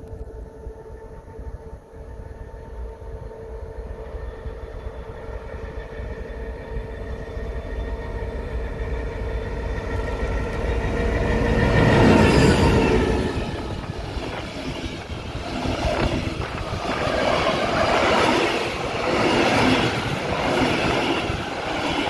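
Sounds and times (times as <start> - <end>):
diesel locomotive engine rumble: 0.0 - 22.0
steady whine: 0.0 - 22.0.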